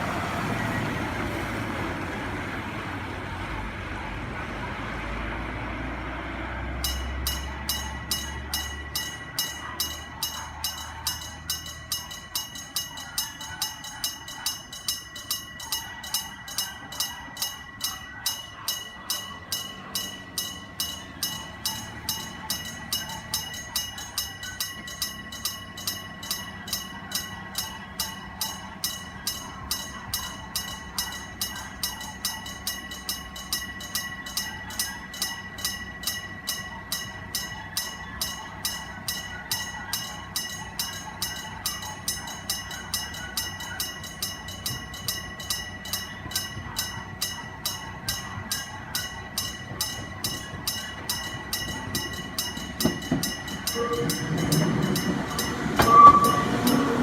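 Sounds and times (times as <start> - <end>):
train rumble: 0.0 - 57.0
level crossing bells ringing: 3.4 - 57.0.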